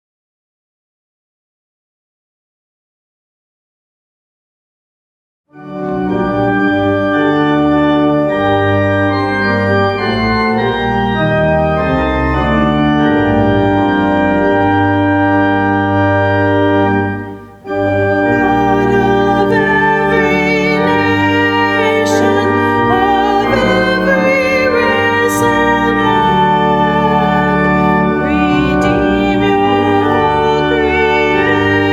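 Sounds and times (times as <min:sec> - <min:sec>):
organ playing sustained chords: 0:05.5 - 0:31.9.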